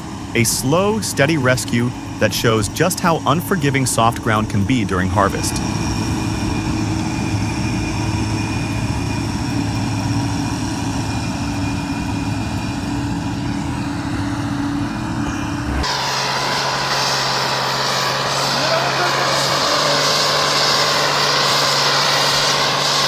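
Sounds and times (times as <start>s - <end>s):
tractor engines running: 0.0s - 23.0s.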